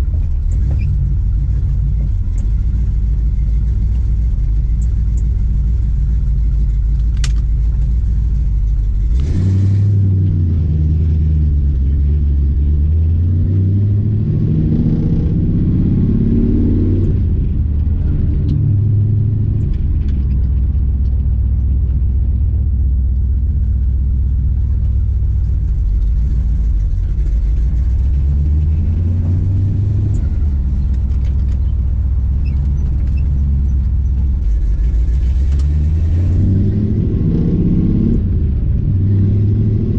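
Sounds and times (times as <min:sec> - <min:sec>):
car engine revving: 0:00.0 - 0:22.1, 0:22.8 - 0:39.9.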